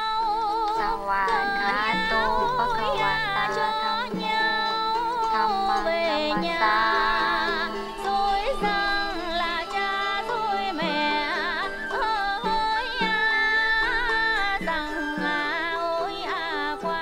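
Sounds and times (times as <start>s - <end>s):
person singing ornamented melody: 0.0s - 17.0s.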